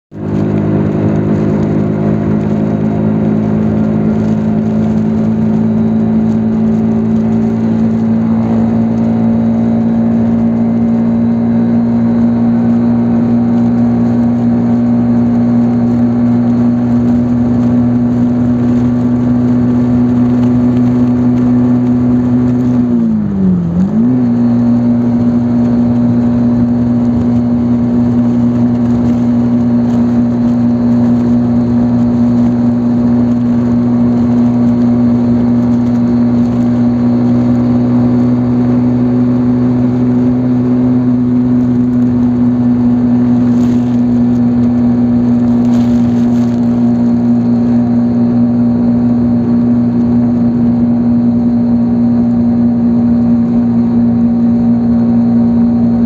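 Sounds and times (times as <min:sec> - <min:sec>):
motorcycle engine cruising: 0:00.1 - 0:56.0.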